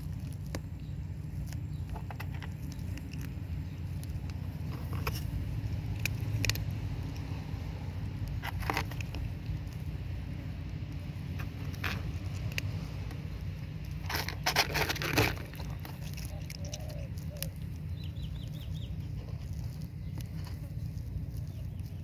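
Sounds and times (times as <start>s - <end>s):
kitten crunching dry kibble: 0.0s - 22.0s
steady low rumble: 0.0s - 22.0s.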